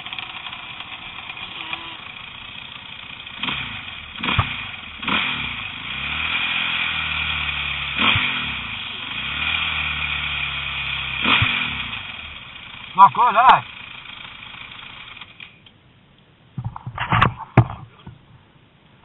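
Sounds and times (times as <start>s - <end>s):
engine revving: 0.0s - 15.5s.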